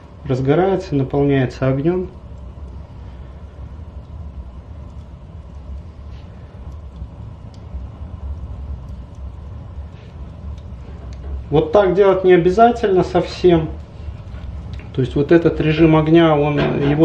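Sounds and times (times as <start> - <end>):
fire crackles: 0.0 - 17.0
stove draft rumbling: 0.0 - 17.0.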